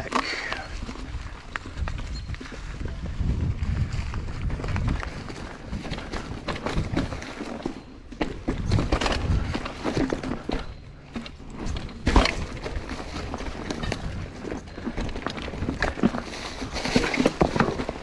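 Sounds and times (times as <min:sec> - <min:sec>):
bike rattling: 0:00.0 - 0:18.0
bike tyres crunching through leaves: 0:00.0 - 0:18.0.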